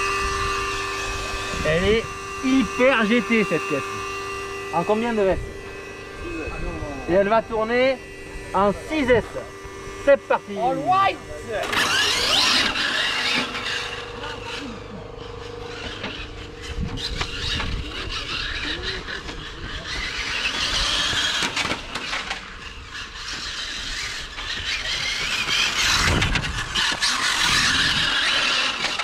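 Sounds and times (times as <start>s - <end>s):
rc car electric motor whine: 0.0s - 29.0s.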